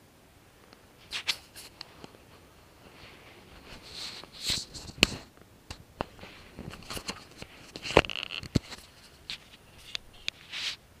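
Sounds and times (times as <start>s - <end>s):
soft scraping and rubbing: 1.0s - 5.3s, 6.1s - 10.8s.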